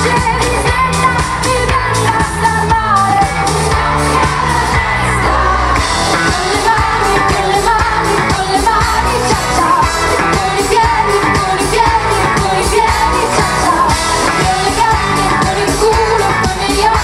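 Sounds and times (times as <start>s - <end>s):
live pop band with singer: 0.0s - 17.0s
steady drum beat: 0.0s - 17.0s.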